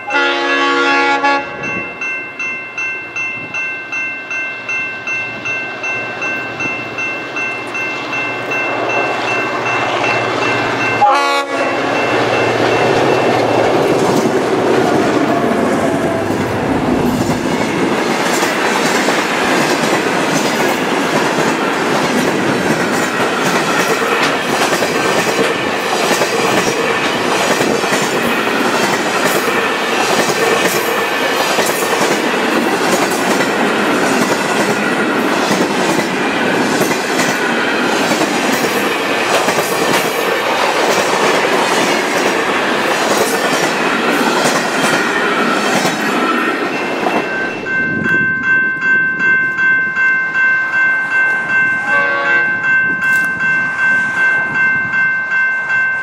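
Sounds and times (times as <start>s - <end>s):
freight train rolling rumble: 4.6s - 56.0s.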